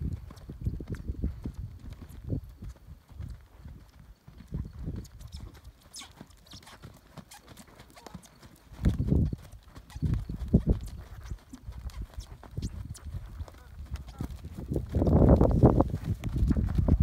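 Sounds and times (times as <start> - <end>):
hoofbeats on soft dirt: 0.0 - 17.0.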